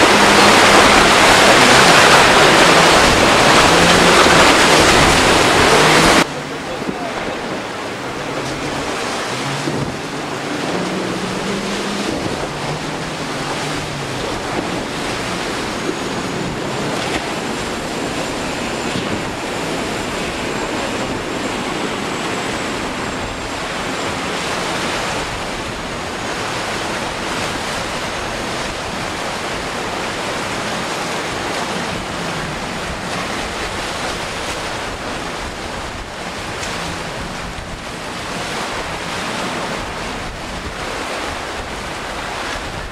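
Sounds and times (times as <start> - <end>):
surf breaking: 0.0 - 42.9
wind buffeting microphone: 0.0 - 42.9.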